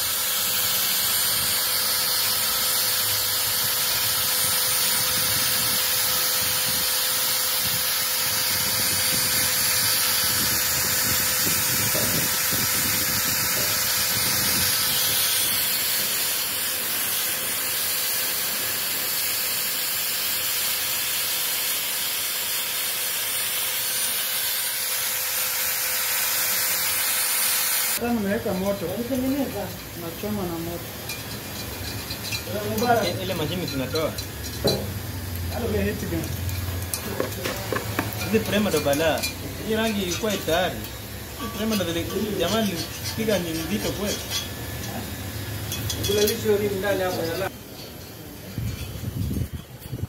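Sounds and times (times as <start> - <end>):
drill with wire brush scrubbing: 0.0 - 50.0.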